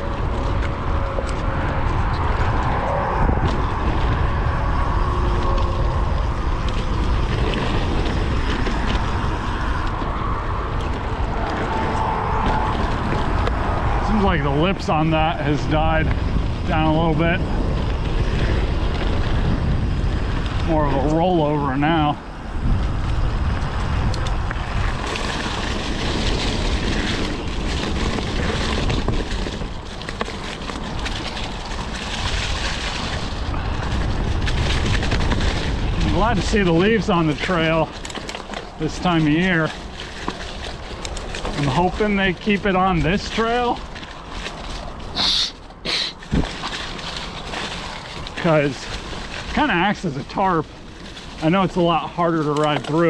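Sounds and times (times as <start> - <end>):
bicycle tyre noise: 0.0 - 53.0
bike clicks and rattles: 0.0 - 53.0
wind noise on microphone: 0.0 - 53.0.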